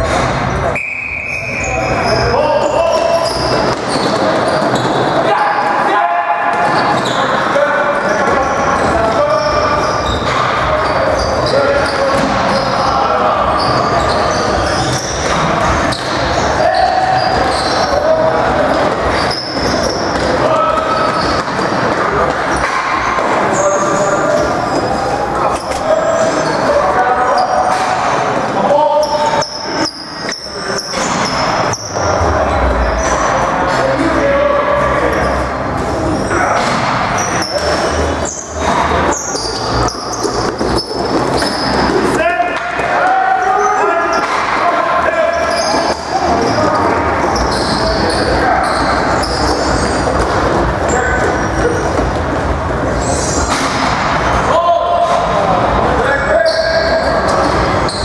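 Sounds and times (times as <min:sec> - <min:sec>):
sneaker squeaks on floor: 0:00.0 - 0:05.8, 0:06.5 - 0:33.4, 0:34.8 - 0:54.1, 0:56.3 - 0:58.0
players shouting: 0:00.0 - 0:58.0.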